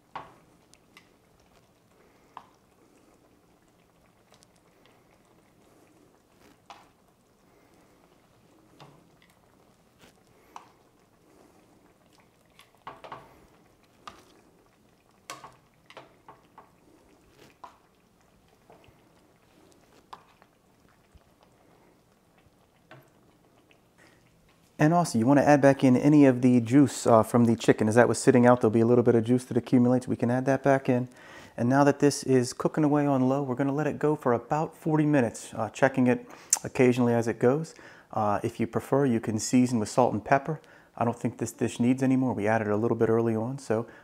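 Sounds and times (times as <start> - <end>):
sauce simmering in a pan: 0.0 - 44.0.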